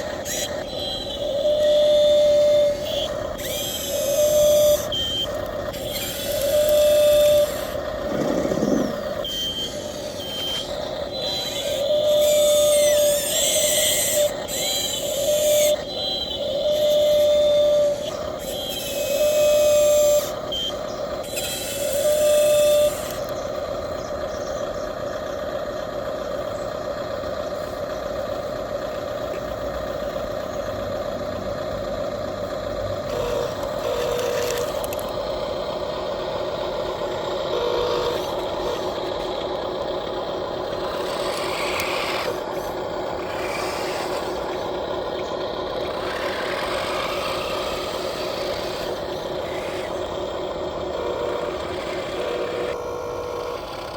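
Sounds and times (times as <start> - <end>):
model excavator and trucks running: 0.0 - 53.9.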